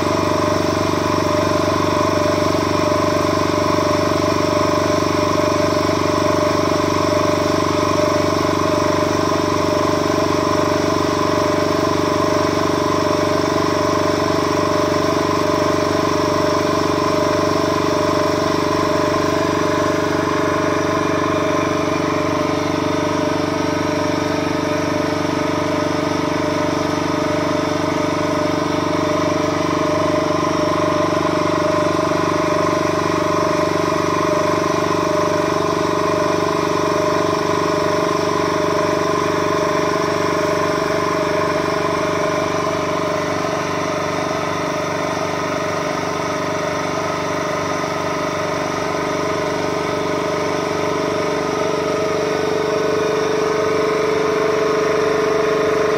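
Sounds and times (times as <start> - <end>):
vacuum pump motor hum: 0.0 - 55.9.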